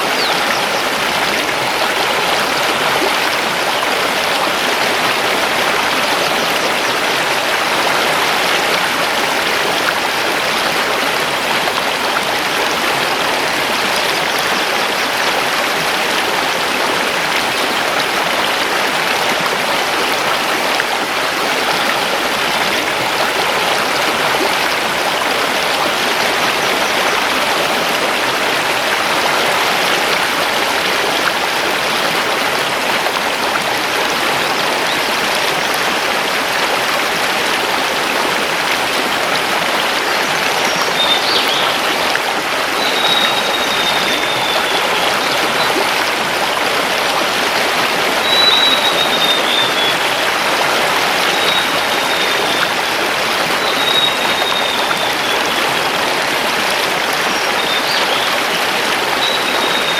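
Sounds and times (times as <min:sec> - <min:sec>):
river rushing over stones: 0:00.0 - 0:59.9.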